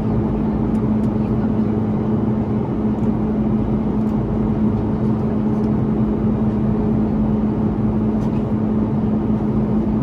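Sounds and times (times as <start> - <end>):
cabin air rush and jet engines: 0.0 - 10.0
constant low hum: 0.0 - 10.0.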